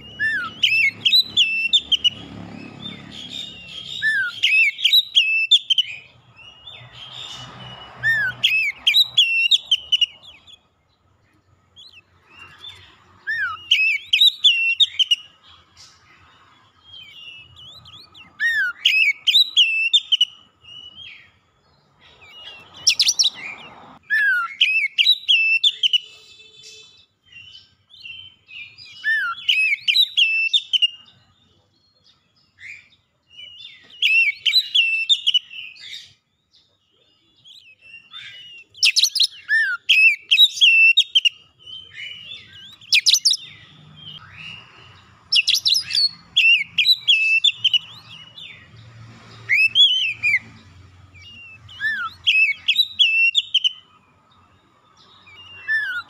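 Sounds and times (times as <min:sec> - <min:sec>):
bird singing whistles and chirps: 0:00.0 - 0:21.4, 0:22.0 - 0:56.0.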